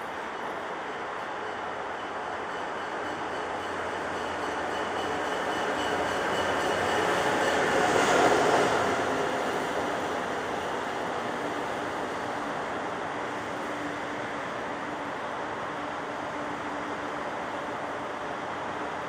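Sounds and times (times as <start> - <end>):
high-speed train passing: 0.0 - 19.0.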